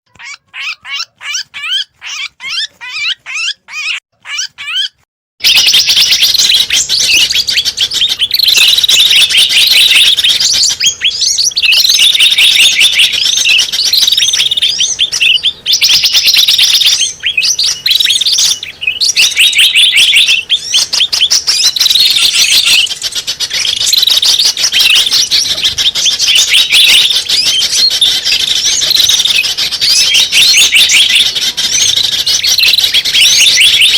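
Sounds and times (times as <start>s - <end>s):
chattering chorus of small birds: 0.1s - 33.9s
recorded bird chirps: 0.1s - 33.9s.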